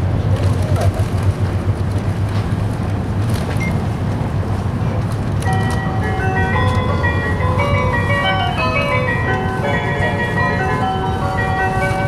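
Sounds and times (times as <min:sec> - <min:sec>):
train cabin rumble and hiss: 0:00.0 - 0:12.0.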